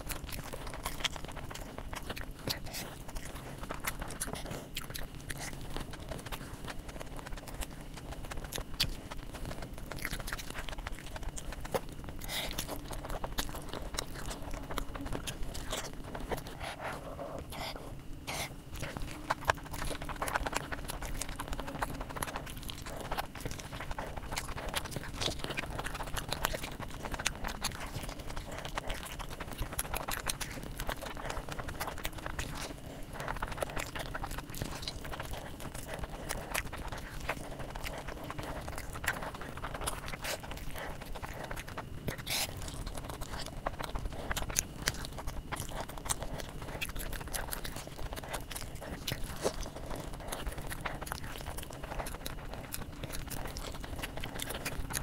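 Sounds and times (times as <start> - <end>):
chewing with wet mouth clicks: 0.0 - 55.0
soft crunches of biting food: 0.0 - 55.0.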